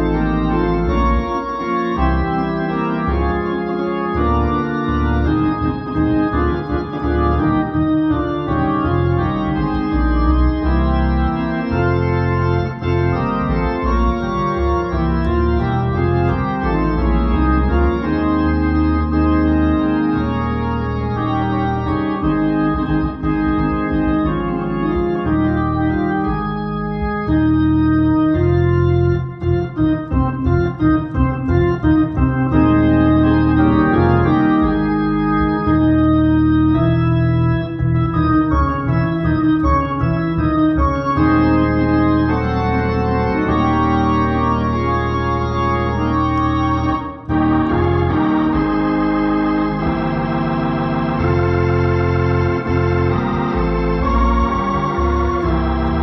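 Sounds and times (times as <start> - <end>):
organ playing chords: 0.0 - 56.0
steady organ bass: 0.0 - 56.0.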